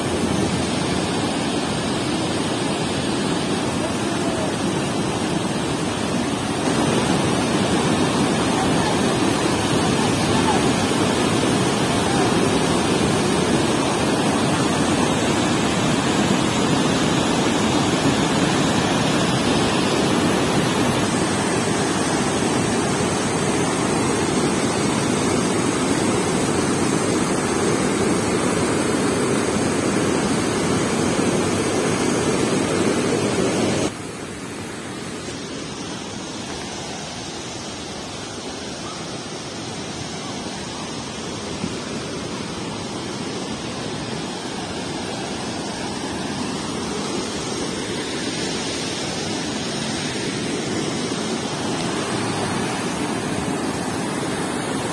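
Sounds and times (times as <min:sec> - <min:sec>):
stream rushing over boulders: 0:00.0 - 0:54.9.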